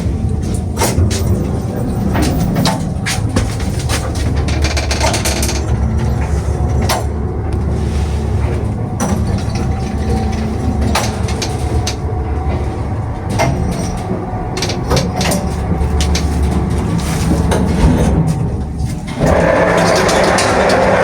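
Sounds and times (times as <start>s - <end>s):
lift car rumbling: 0.0s - 21.0s
sharp creaks and knocks: 0.0s - 21.0s.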